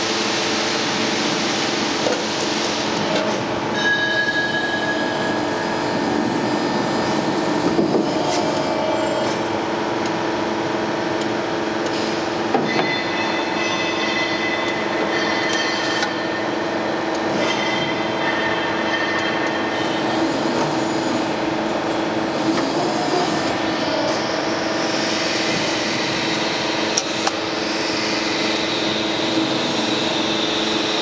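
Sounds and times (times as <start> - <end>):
press brake machinery humming: 0.0 - 31.0.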